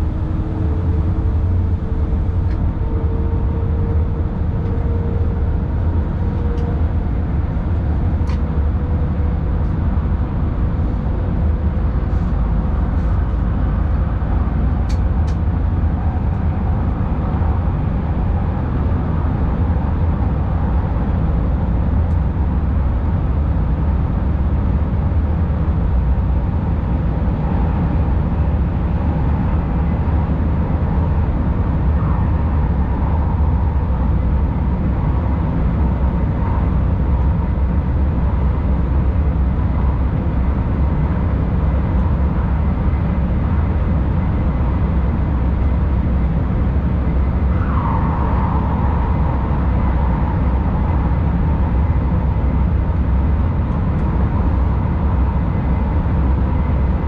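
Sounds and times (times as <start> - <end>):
faint whining tone: 0.0 - 22.2, 29.0 - 57.0
train rumbling through tunnel: 0.0 - 57.0.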